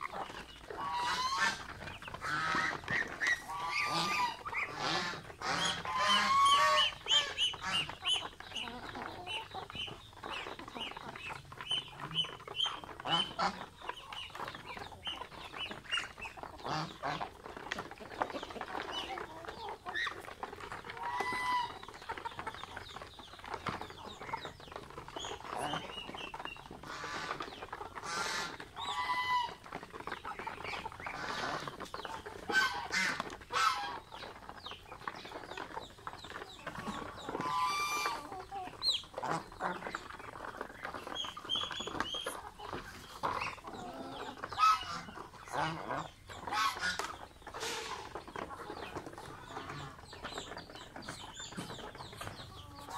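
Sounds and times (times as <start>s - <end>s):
chickens clucking: 0.0s - 52.9s
ducks and geese calling: 0.0s - 52.9s.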